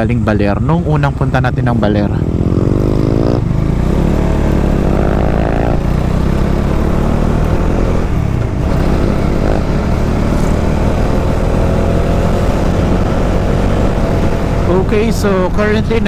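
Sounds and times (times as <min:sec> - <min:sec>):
motorcycle engine accelerating: 0:00.0 - 0:16.0
rushing wind: 0:00.0 - 0:16.0.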